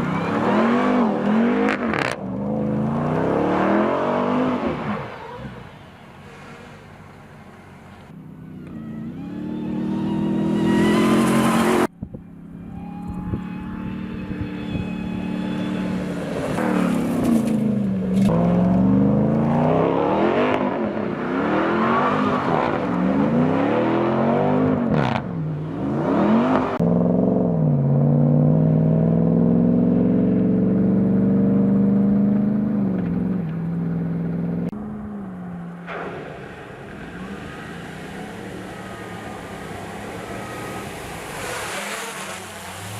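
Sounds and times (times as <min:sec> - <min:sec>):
engine revving: 0:00.0 - 0:05.1, 0:08.6 - 0:11.9, 0:12.6 - 0:42.9.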